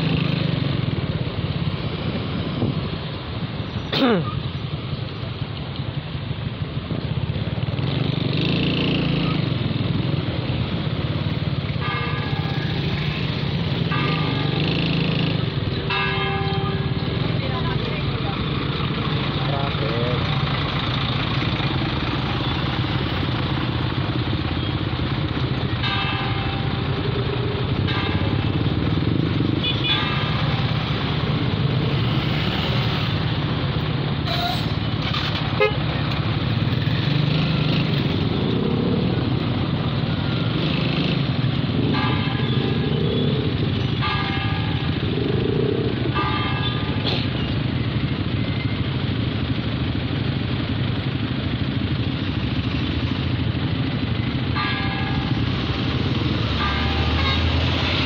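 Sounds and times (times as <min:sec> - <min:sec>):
motorcycle engines humming: 0:00.0 - 0:58.0.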